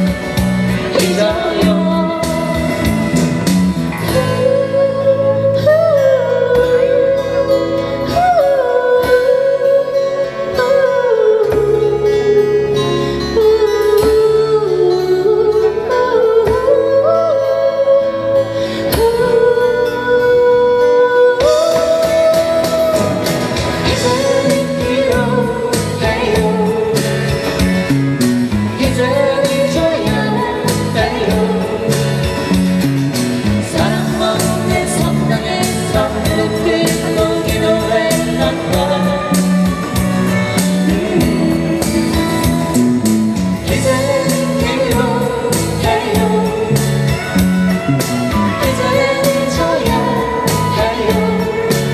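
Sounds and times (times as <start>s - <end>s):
person singing: 0.0s - 27.6s, 28.7s - 32.9s, 33.5s - 51.9s
acoustic guitars: 0.0s - 51.9s
electric guitar: 0.0s - 51.9s.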